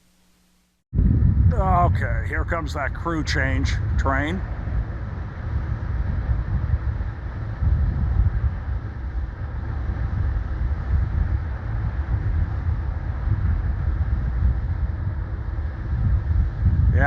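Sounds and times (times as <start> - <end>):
wind buffeting microphone: 1.0 - 17.0.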